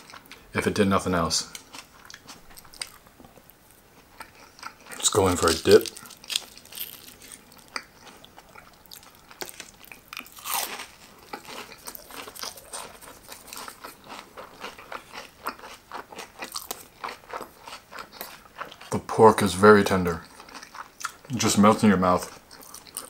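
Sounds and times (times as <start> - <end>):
crunching and chewing crispy food: 1.4 - 23.0.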